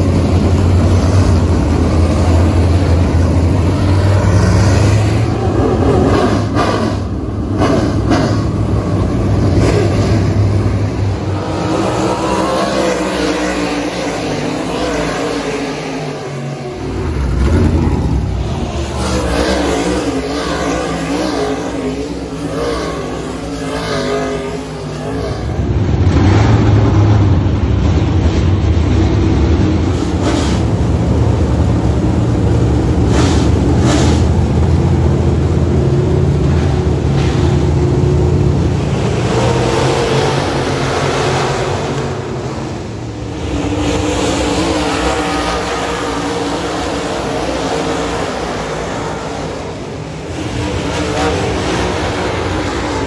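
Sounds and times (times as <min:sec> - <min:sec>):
low rumble of many engines: 0:00.0 - 0:53.0
race car engines revving: 0:00.0 - 0:53.0.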